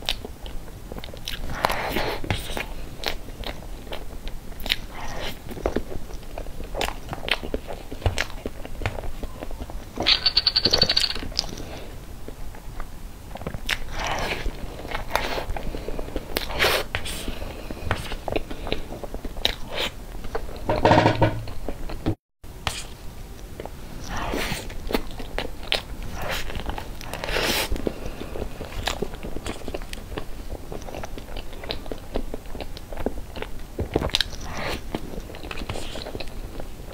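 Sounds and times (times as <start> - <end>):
mouth chewing and smacking: 0.0 - 10.2, 10.8 - 20.6, 22.7 - 36.9.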